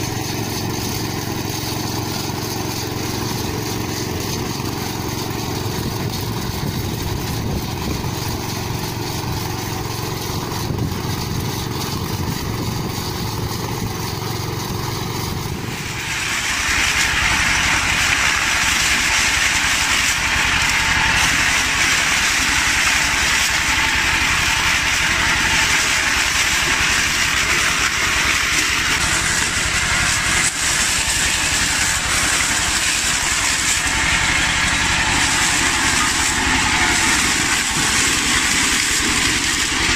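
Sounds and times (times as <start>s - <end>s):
corn harvester clattering: 0.0s - 39.9s
small engine running: 0.0s - 39.9s.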